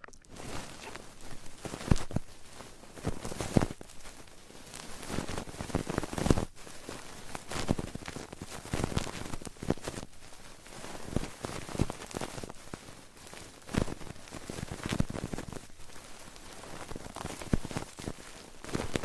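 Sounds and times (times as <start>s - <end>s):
crackling taps and scratches: 0.0s - 19.0s.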